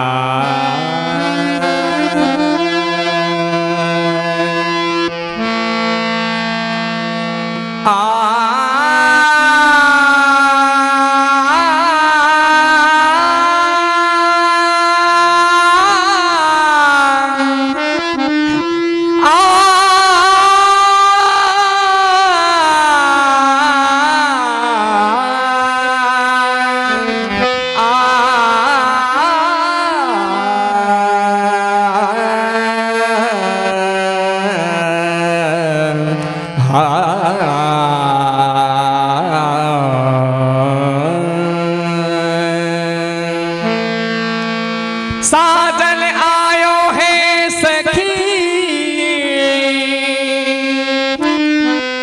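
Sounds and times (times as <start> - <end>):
person singing devotional melody: 0.0 - 52.0.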